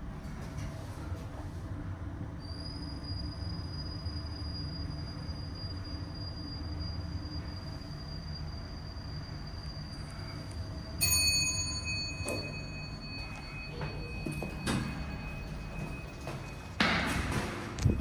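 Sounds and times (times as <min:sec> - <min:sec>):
elevator car rumble: 0:00.0 - 0:18.0.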